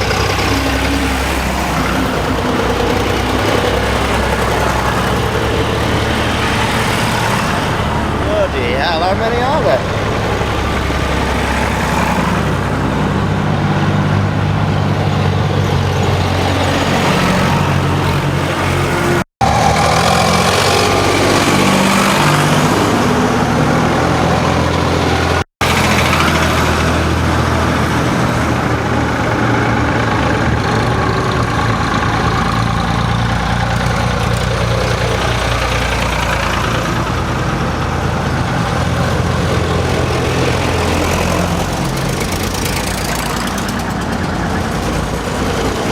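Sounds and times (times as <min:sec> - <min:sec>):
tractor engines idling: 0:00.0 - 0:45.9.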